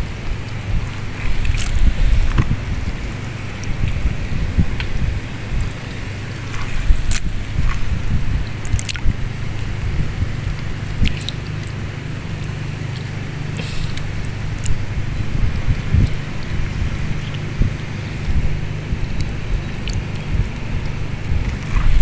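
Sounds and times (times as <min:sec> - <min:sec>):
shallow water splashes: 0:00.0 - 0:22.0
wind buffeting microphone: 0:00.0 - 0:22.0.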